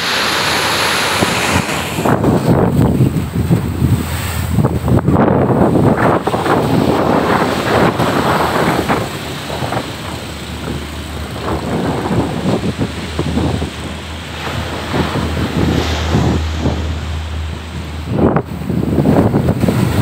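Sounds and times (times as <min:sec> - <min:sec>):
surf breaking on shore: 0:00.0 - 0:20.0
wind buffeting microphone: 0:00.0 - 0:20.0.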